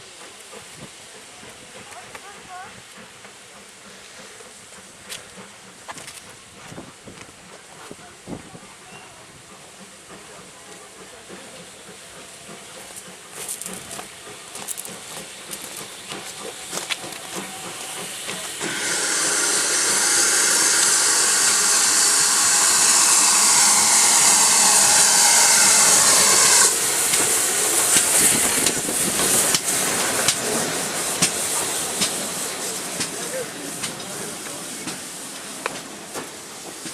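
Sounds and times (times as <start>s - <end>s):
locomotive venting steam: 0.0s - 36.9s.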